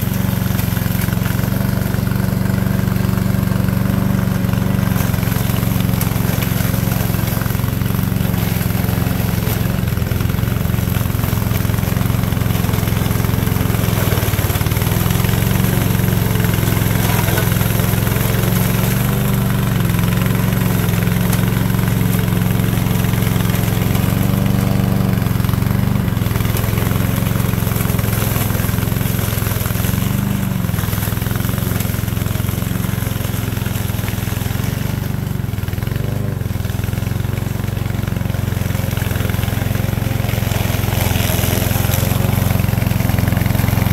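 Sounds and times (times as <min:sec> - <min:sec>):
mower engine running: 0:00.0 - 0:43.9.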